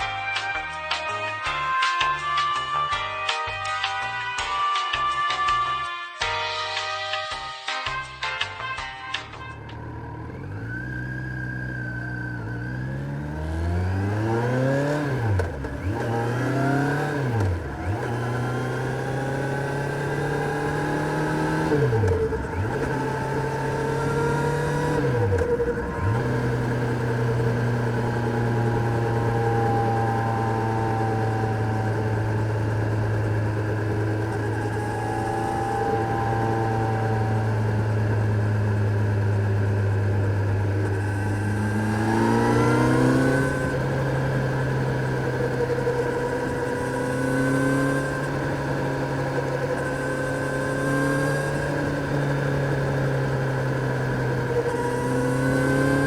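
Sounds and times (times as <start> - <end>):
motorcycle engine revving through gears: 9.2 - 56.0.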